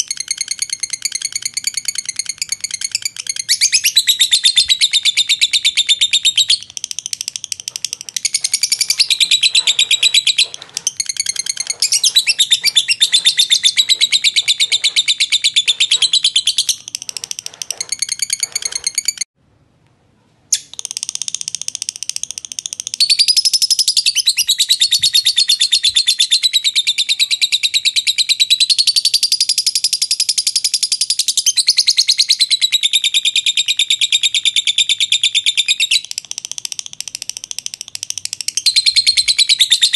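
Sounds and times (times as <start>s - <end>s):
lovebird chattering: 0.0s - 19.2s, 20.5s - 39.9s.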